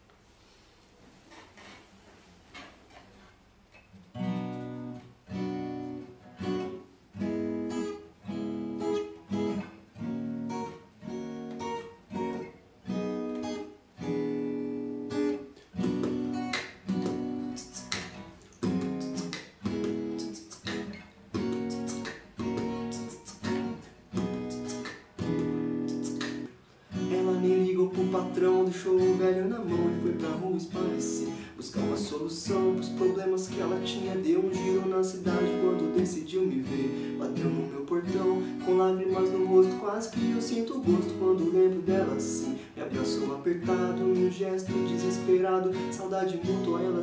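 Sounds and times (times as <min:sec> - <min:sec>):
acoustic guitar strumming: 0:03.8 - 0:47.0.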